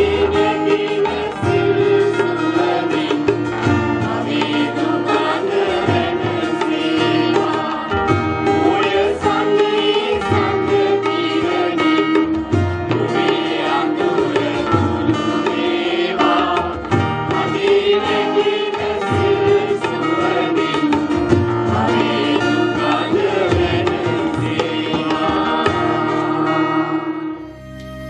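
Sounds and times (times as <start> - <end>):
choir singing through speakers: 0.0 - 27.4
instrumental accompaniment: 0.0 - 28.0.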